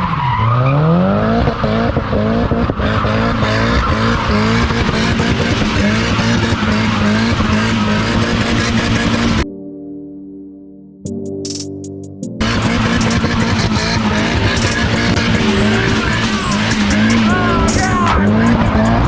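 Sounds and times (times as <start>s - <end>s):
tyres skidding: 0.0s - 9.4s, 12.4s - 19.0s
engine revving hard: 0.6s - 9.4s, 12.4s - 19.0s.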